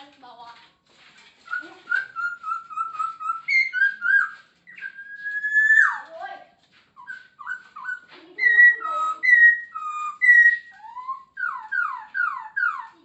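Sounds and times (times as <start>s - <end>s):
bird singing whistled phrases: 1.4s - 6.1s, 7.0s - 13.0s.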